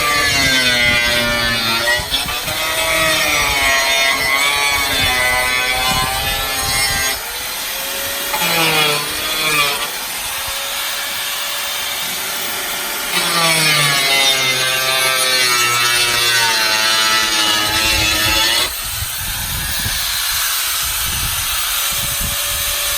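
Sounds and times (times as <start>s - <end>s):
power tool motor whine: 0.0s - 22.9s.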